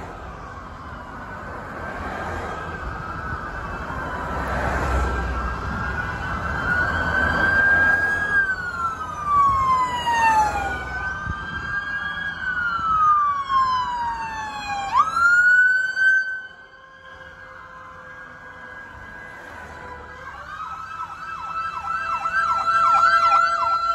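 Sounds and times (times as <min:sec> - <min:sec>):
passing vehicles rumble: 0:00.0 - 0:23.9
police siren wailing: 0:00.0 - 0:23.9.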